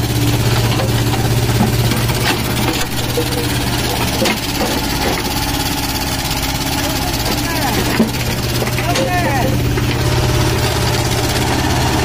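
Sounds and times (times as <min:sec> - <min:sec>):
excavator arm clanks: 0:00.0 - 0:10.9
excavator diesel engine running: 0:00.0 - 0:12.0.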